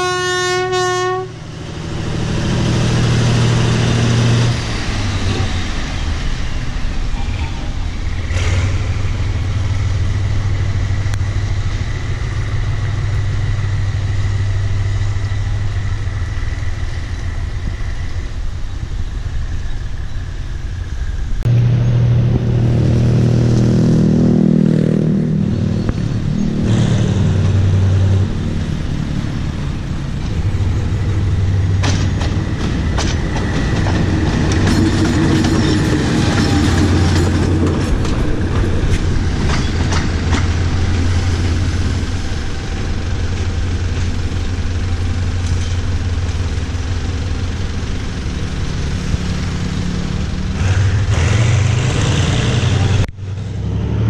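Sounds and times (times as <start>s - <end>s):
locomotive engine throbbing: 0.0s - 54.0s.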